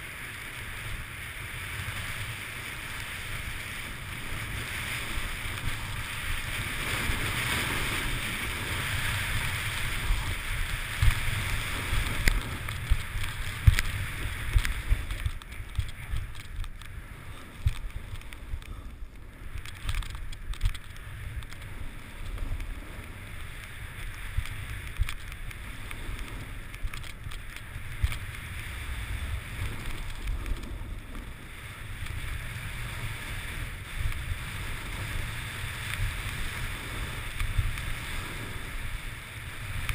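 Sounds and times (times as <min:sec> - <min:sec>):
skis hissing through snow: 0:00.0 - 0:39.9
wind buffeting microphone: 0:00.0 - 0:39.9.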